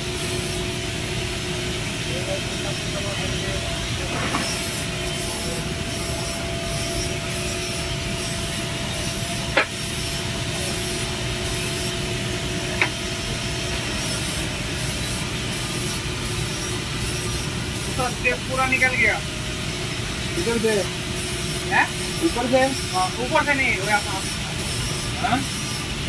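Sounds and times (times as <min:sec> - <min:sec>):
workshop machinery hum: 0:00.0 - 0:26.0.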